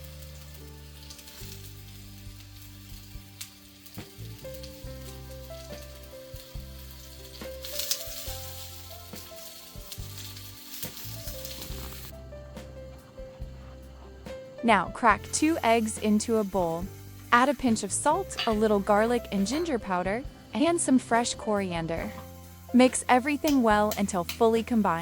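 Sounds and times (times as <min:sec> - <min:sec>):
vegetables sizzling in a pan: 0:00.0 - 0:12.2, 0:15.0 - 0:25.0
soft background music: 0:00.0 - 0:25.0.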